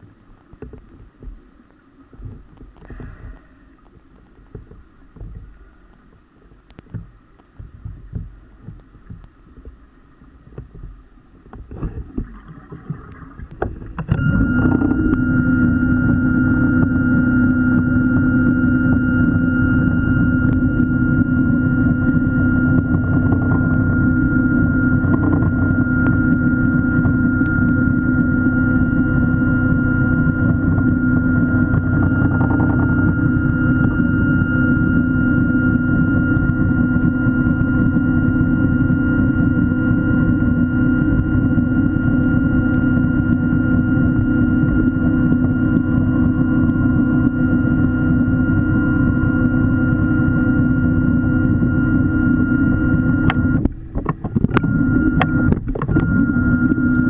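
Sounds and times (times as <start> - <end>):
underwater scooter motor humming: 0.0 - 57.0.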